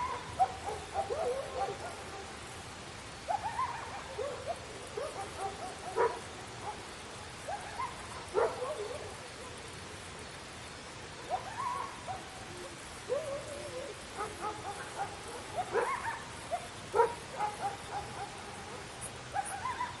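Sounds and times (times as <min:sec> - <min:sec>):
dogs barking and yelping: 0:00.0 - 0:09.6, 0:11.2 - 0:20.0
steady background hiss: 0:00.0 - 0:20.0.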